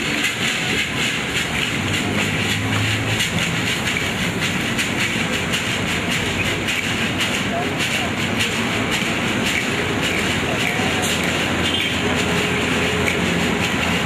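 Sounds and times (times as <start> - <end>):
gourd rattles shaken: 0.0 - 14.0.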